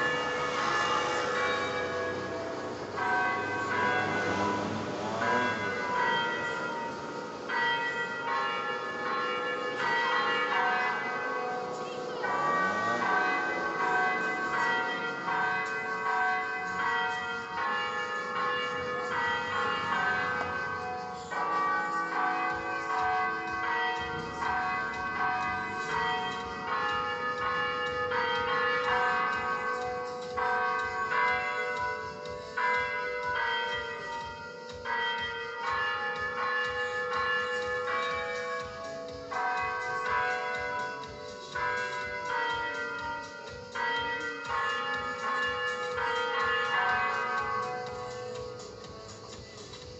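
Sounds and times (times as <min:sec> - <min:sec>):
electronic church bells pealing: 0:00.0 - 0:49.9.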